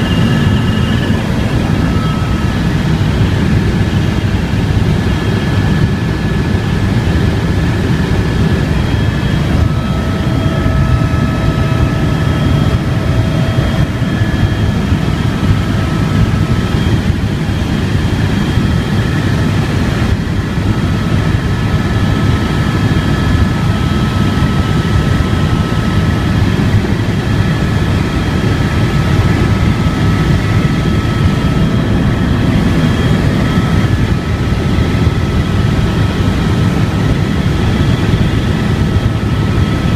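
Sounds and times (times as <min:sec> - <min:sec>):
helicopter rotor and engine: 0:00.0 - 0:39.9
high turbine whine: 0:00.0 - 0:39.9.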